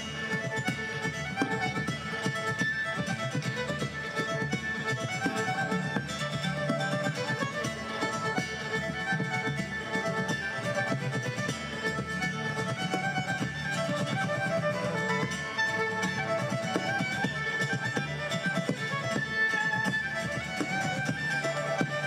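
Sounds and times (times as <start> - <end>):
fiddle playing quick melody: 0.0 - 22.0
rhythmic accompaniment: 0.1 - 22.0.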